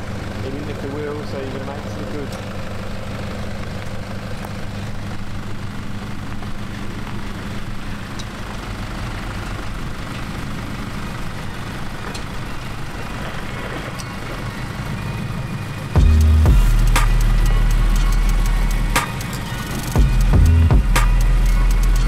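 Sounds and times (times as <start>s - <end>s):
engines running at low revs: 0.0s - 22.0s.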